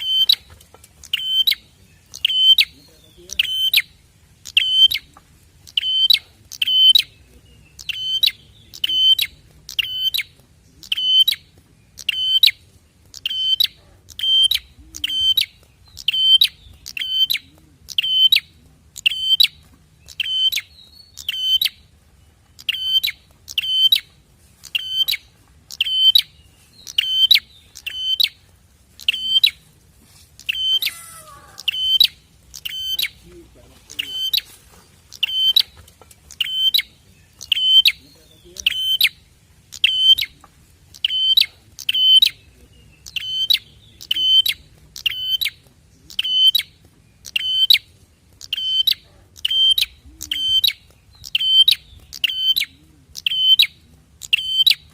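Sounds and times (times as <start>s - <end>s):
bird calling sharp ringing notes: 0.0s - 5.1s, 5.7s - 21.9s, 22.6s - 28.4s, 29.0s - 29.6s, 30.4s - 33.2s, 33.8s - 40.4s, 41.0s - 54.9s.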